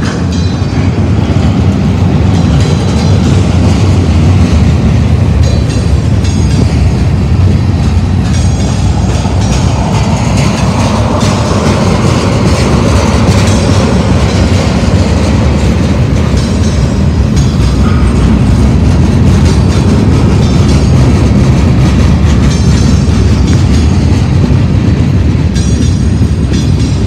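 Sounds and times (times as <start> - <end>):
steel train wheels rumbling on rails: 0.0 - 27.0
wheels clacking over rails: 0.0 - 27.0.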